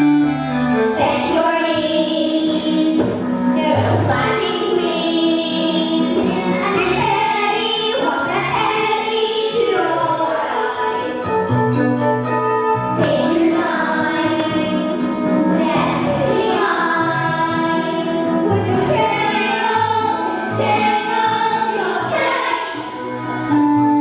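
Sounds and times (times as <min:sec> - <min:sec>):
children's chorus singing: 0:00.0 - 0:11.5, 0:13.0 - 0:23.6
instrumental backing: 0:00.0 - 0:24.0.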